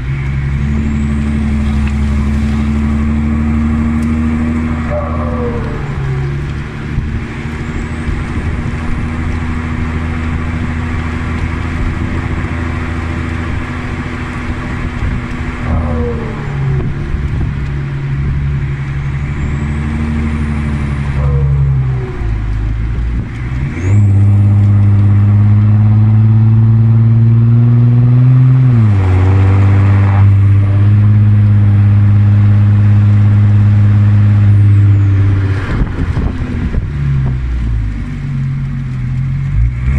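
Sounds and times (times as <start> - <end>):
diesel car engine driving: 0.0 - 39.9.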